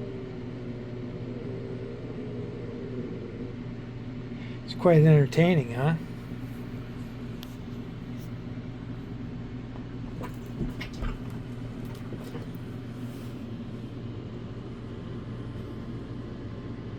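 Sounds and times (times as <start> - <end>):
low mechanical hum: 0.0 - 16.9.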